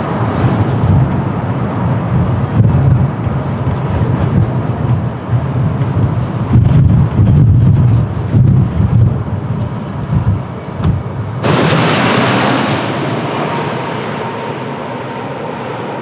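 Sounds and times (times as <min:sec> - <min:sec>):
gusty wind on microphone: 0:00.0 - 0:15.8
jet airliner engine noise: 0:00.0 - 0:16.0
low rumble: 0:00.0 - 0:16.0.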